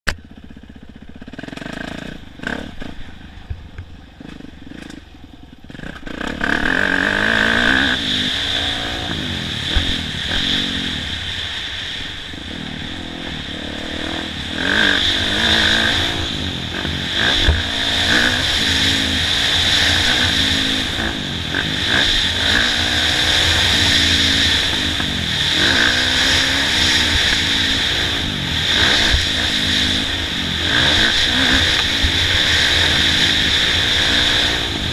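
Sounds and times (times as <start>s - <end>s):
dirt bike engine revving: 0.2s - 3.5s, 4.1s - 34.9s.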